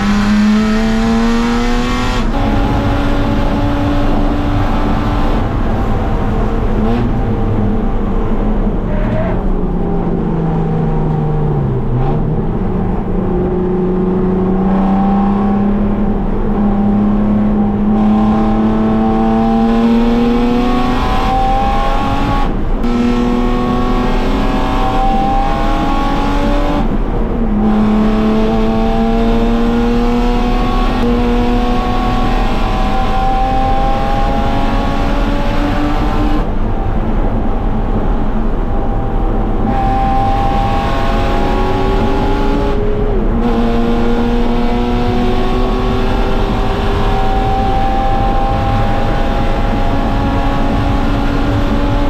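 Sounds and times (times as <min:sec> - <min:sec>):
race car engine accelerating: 0:00.0 - 0:52.0
wind and road noise: 0:00.0 - 0:52.0.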